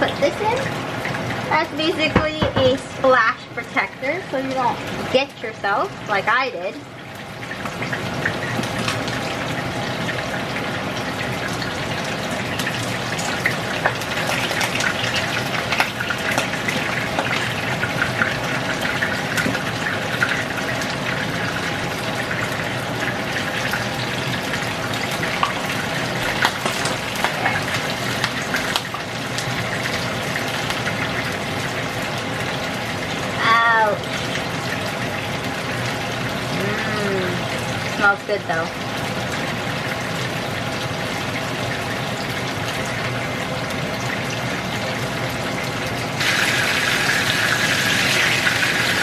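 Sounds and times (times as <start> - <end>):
food deep-frying in hot oil: 0.0 - 49.0.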